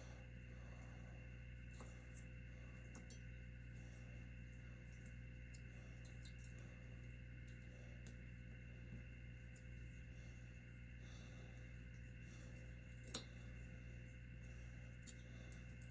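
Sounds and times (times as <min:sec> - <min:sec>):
low electrical hum: 0:00.0 - 0:15.9.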